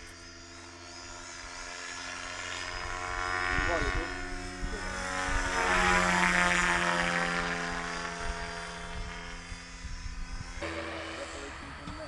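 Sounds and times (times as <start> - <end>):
rc helicopter motor and rotor whine: 0.0 - 12.0.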